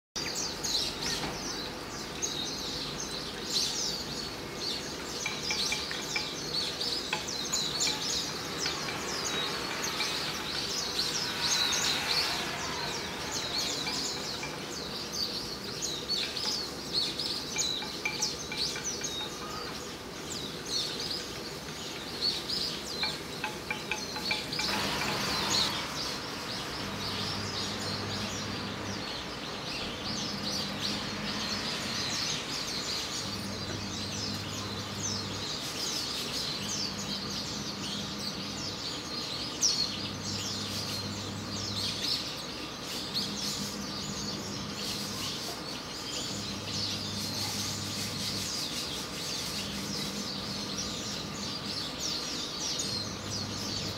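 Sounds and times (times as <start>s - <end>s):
songbirds chirping: 0.1s - 53.9s.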